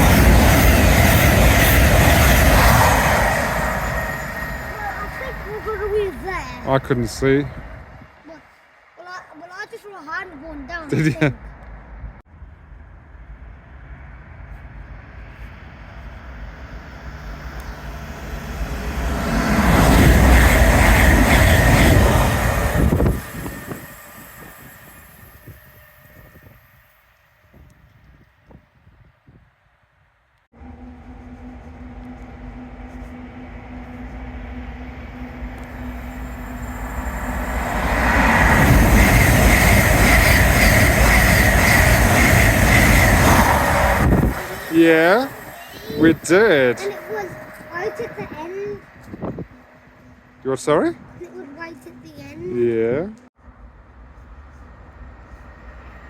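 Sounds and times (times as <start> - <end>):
train rumble: 0.0 - 29.1, 30.5 - 56.0.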